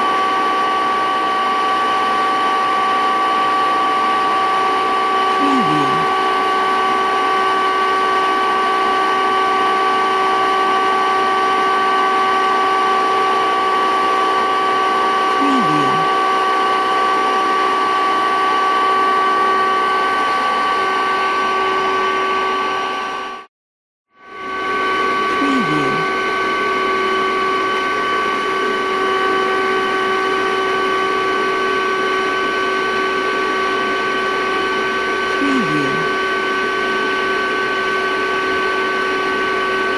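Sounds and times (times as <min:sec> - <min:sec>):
vacuum cleaner running: 0:00.0 - 0:23.4, 0:24.3 - 0:39.9.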